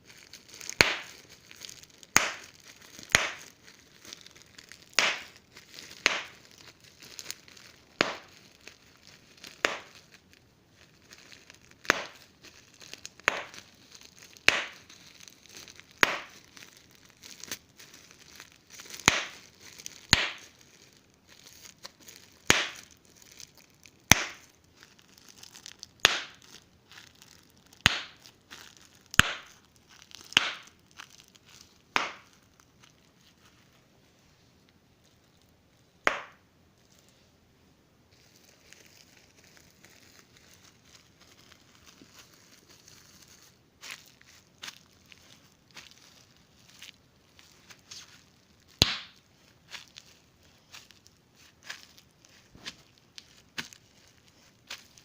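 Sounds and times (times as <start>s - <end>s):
bubble wrap popping: 0.0s - 37.2s, 38.1s - 55.0s
plastic crinkling: 0.0s - 37.2s, 38.1s - 55.0s.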